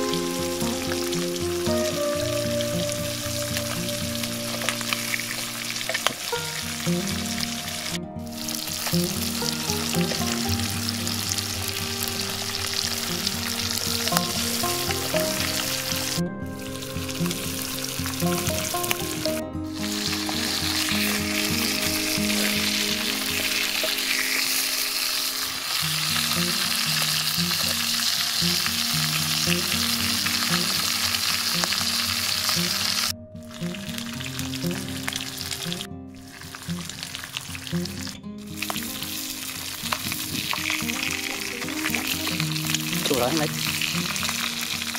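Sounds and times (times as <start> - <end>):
fish sizzling in hot oil: 0.0 - 44.9.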